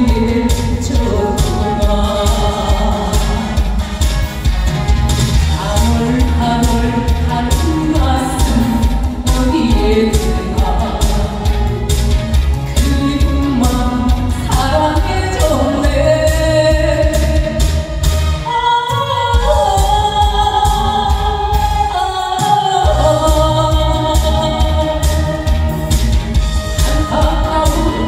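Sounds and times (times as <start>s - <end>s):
woman singing into microphone: 0.0s - 3.8s, 5.5s - 12.0s, 12.7s - 28.0s
backing track with drums and bass: 0.0s - 28.0s.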